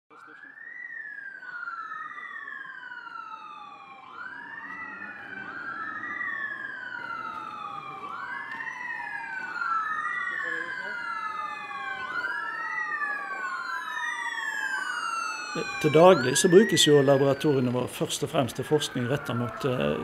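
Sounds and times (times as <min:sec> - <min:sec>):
emergency vehicle sirens: 0:00.1 - 0:20.0.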